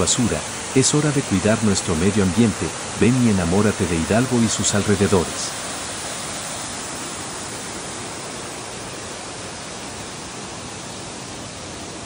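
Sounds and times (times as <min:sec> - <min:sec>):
waterfall and river rushing: 0:00.0 - 0:12.0.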